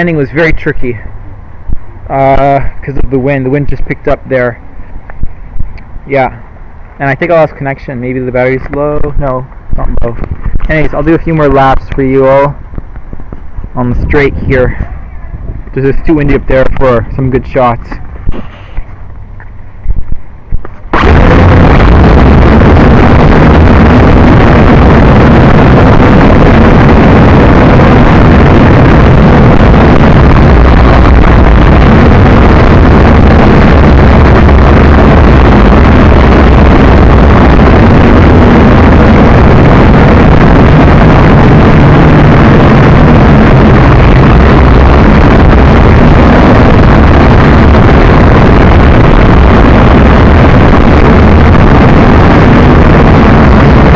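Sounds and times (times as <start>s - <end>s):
drone propellers droning: 0.0s - 53.9s
wind buffeting microphone: 0.0s - 53.9s.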